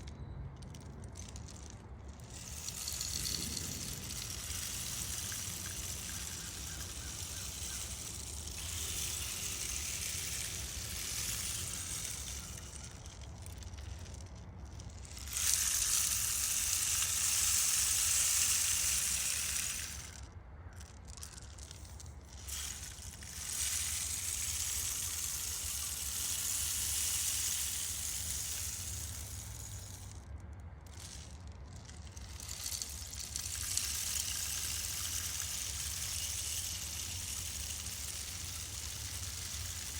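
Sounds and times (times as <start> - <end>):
rainstick trickling: 0.6 - 39.9.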